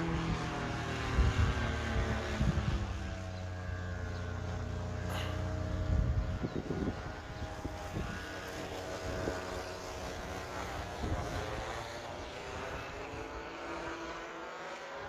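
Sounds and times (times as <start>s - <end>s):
paramotor engine droning: 0.0s - 15.0s.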